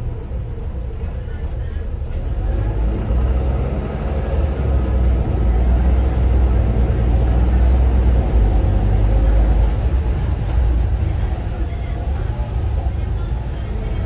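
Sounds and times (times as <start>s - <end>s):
bus engine and road drone: 0.0s - 14.0s.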